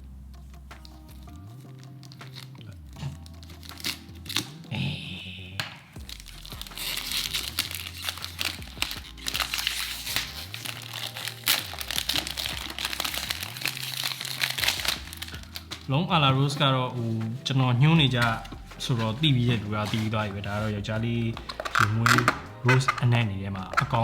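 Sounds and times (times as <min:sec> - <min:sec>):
plastic wrapping crinkling and tearing: 0:01.1 - 0:04.7, 0:06.0 - 0:24.0.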